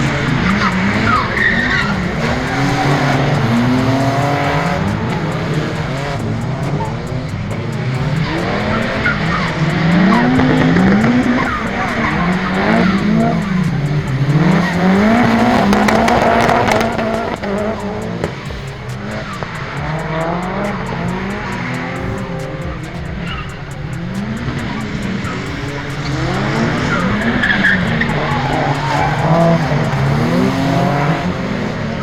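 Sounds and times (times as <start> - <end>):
car engines revving: 0.0 - 32.0
tyre squeal: 0.0 - 32.0.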